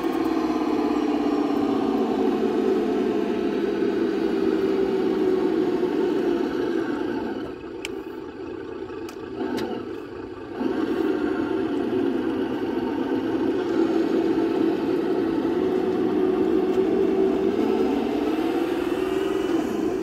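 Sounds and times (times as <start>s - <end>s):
golf cart motor humming: 0.0s - 20.0s.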